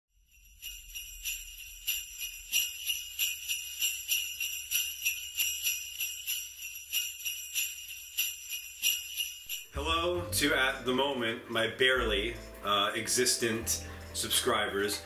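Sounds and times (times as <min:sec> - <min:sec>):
sleigh bells jingling: 0:00.1 - 0:15.0.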